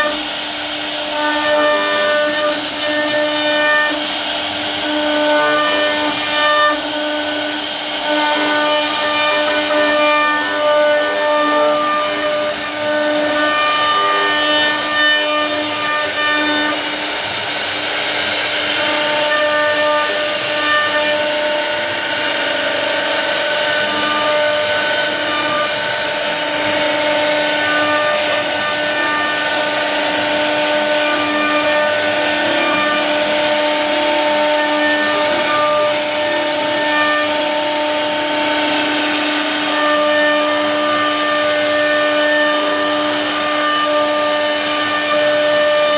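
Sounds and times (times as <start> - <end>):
cutter rasping in wood: 0.0 - 45.9
router spindle whining: 0.0 - 45.9.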